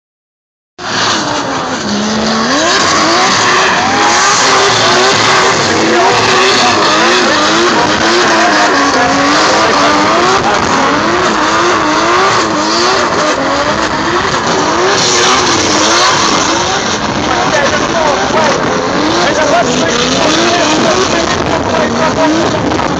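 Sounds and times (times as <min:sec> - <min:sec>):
car engine revving: 0:00.8 - 0:22.9
tyres skidding and squealing: 0:00.8 - 0:22.9.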